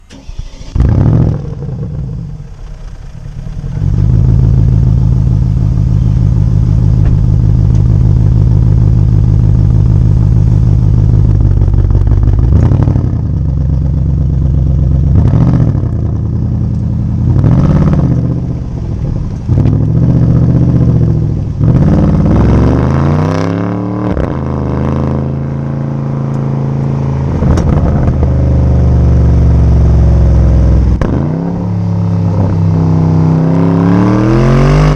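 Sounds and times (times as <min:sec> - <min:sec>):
car engine idling: 0:00.0 - 0:23.1, 0:24.2 - 0:33.5
car engine starting: 0:00.0 - 0:34.9
deep engine drone: 0:00.0 - 0:34.9
engine revving: 0:00.0 - 0:34.9.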